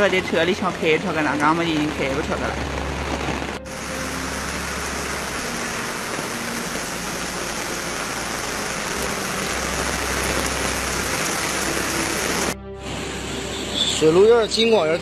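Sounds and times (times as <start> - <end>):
floodwater rushing: 0.0 - 14.8
falling rain: 0.0 - 15.0.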